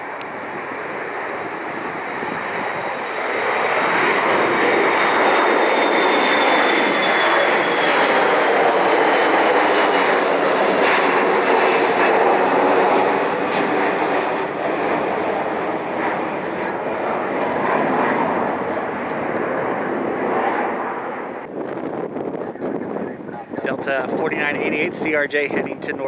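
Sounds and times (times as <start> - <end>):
jet airliner engines roaring: 0.0 - 26.0.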